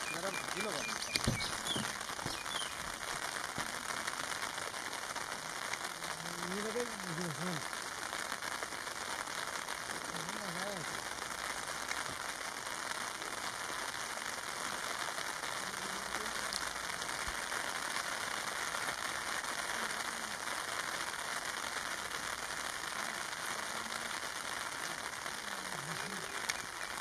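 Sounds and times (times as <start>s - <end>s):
rain falling on foliage: 0.0s - 27.0s.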